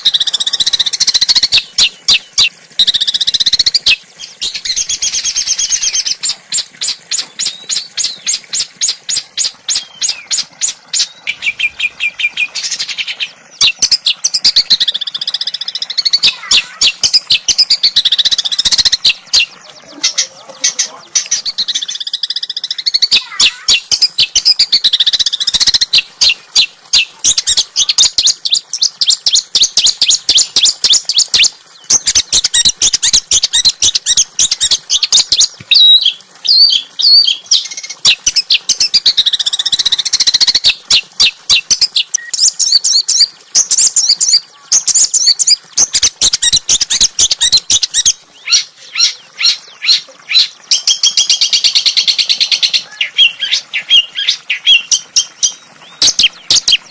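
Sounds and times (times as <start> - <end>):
songbird chirps and trills: 0.0 - 56.9.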